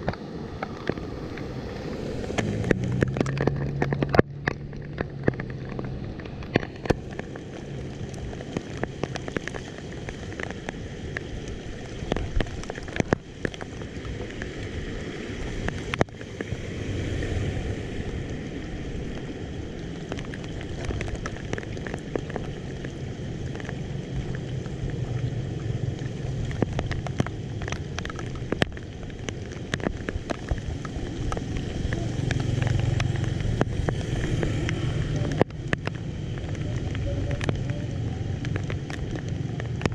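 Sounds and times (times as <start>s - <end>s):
rain hissing: 0.0s - 39.9s
raindrops ticking: 0.0s - 39.9s.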